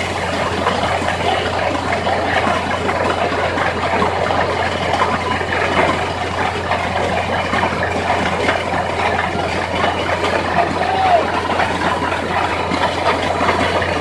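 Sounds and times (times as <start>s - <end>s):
drilling rig machine noise: 0.0s - 14.0s.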